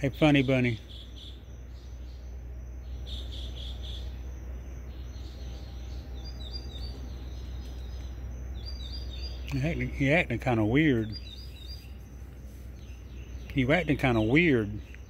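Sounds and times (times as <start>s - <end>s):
insects chirping: 0.0s - 15.0s
steady low hum: 0.0s - 15.0s.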